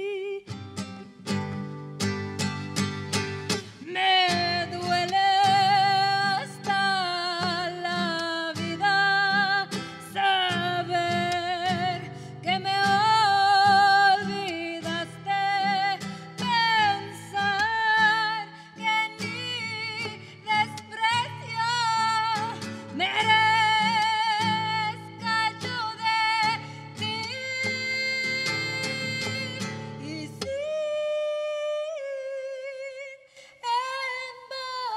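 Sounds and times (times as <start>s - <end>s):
woman singing with vibrato: 0.0s - 1.1s, 3.6s - 34.9s
strummed nylon-string guitar: 0.4s - 31.1s.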